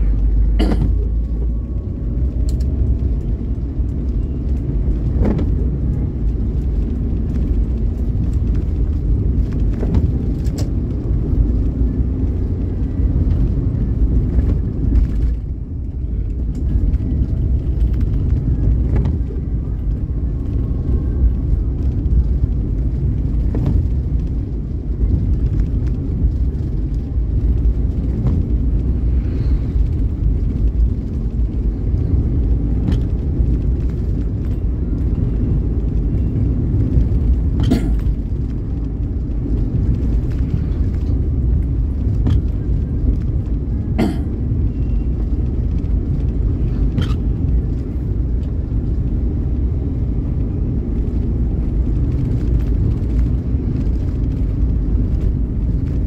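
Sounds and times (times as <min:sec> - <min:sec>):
vehicle rumbling along road: 0:00.0 - 0:56.0.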